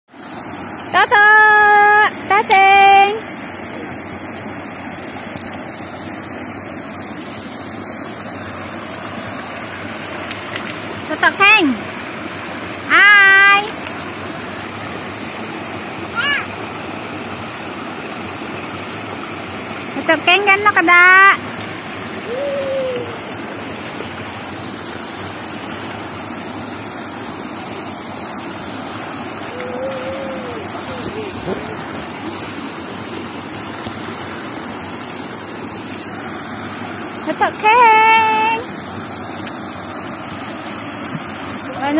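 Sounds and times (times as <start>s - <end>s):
river water pouring over weir: 0.1s - 41.9s.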